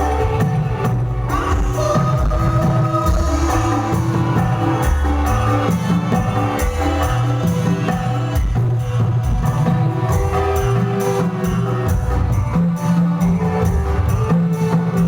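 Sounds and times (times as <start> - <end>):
bass line: 0.0 - 15.0
hand drums beating: 0.0 - 15.0.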